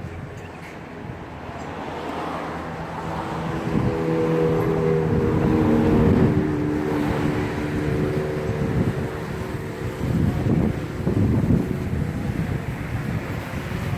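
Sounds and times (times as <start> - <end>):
drone propellers humming: 0.0 - 13.9.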